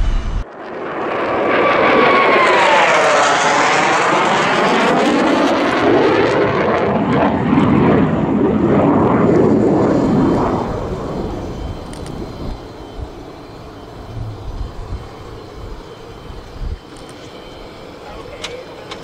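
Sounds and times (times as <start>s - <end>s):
jet aircraft roaring past: 0.0s - 19.0s.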